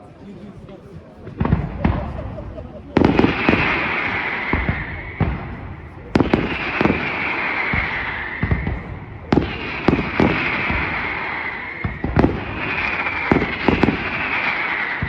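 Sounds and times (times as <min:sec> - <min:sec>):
firework shells exploding: 0:01.3 - 0:15.0.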